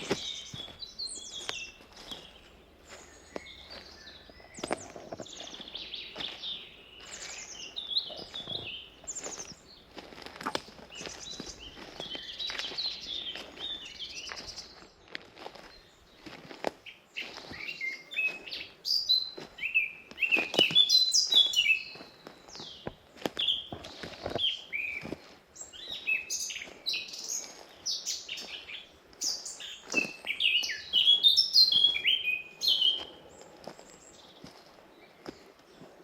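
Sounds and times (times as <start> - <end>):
soft footsteps on path: 0.0 - 36.0
songbirds singing: 0.0 - 36.0.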